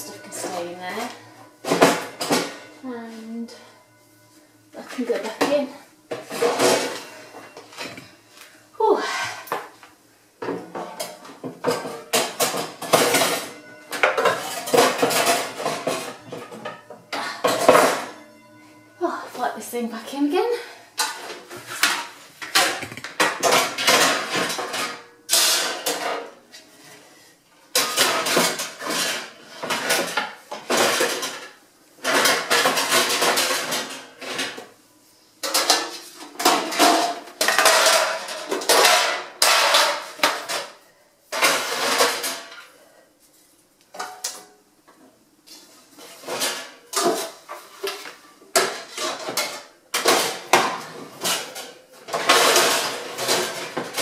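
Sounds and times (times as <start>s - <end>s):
metal baking trays clattering: 0.0s - 3.8s, 4.8s - 8.2s, 10.4s - 18.4s, 19.2s - 34.8s, 35.4s - 42.8s, 43.9s - 54.0s.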